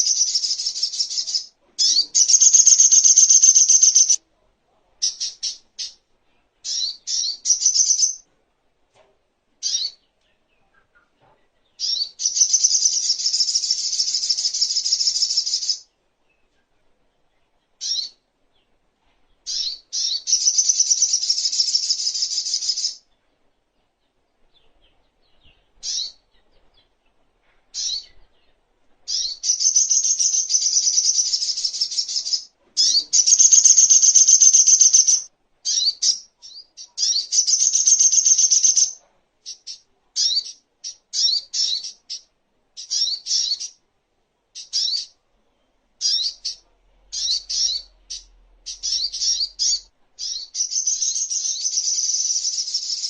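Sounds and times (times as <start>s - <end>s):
bird chattering song: 0.0s - 4.2s, 5.0s - 6.0s, 6.6s - 8.2s, 9.6s - 16.5s, 17.8s - 18.7s, 19.4s - 23.2s, 24.1s - 43.8s, 44.6s - 45.2s, 46.0s - 53.0s.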